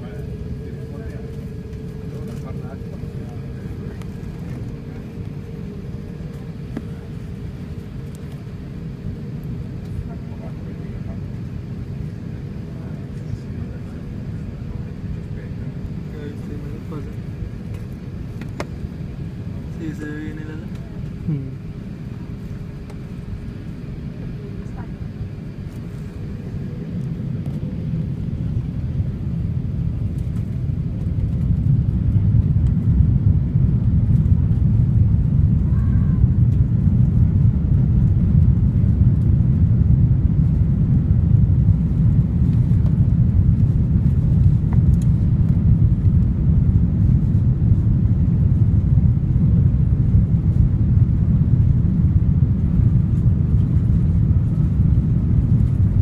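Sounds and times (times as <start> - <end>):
jet engines deep rumble: 0.0 - 56.0.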